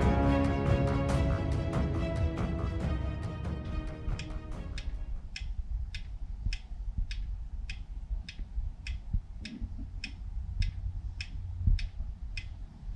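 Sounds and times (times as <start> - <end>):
low steady rumble: 0.0 - 12.9
pendulum clock ticking: 0.0 - 12.9.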